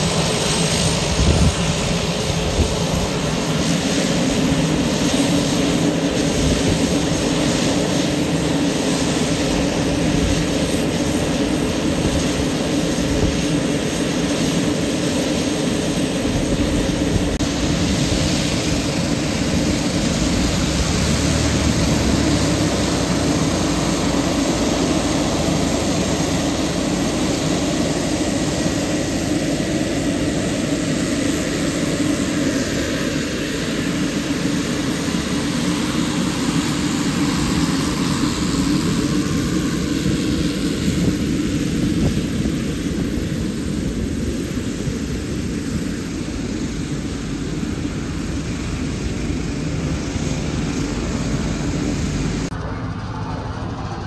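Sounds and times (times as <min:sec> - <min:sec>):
turboprop engine running: 0:00.0 - 0:54.0.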